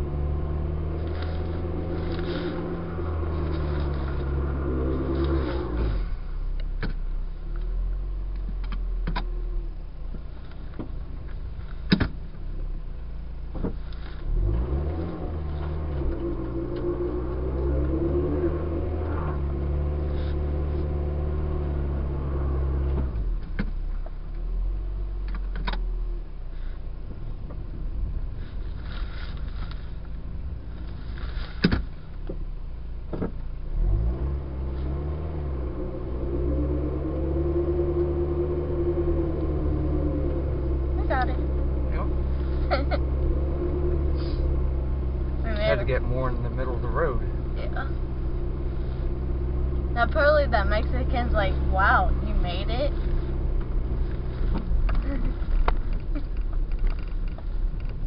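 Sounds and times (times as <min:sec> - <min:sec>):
car engine revving under load: 0:00.0 - 0:58.0.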